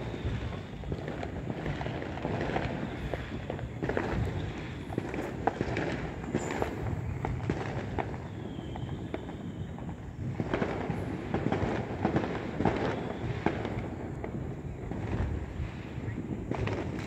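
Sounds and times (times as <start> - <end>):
faint thin firework whistle: 0.0 - 17.0
fireworks popping and banging: 0.0 - 17.0.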